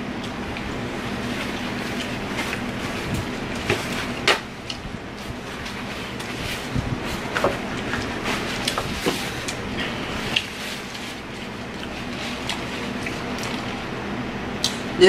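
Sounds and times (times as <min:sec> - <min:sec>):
paper napkins rustling: 0:01.0 - 0:13.9.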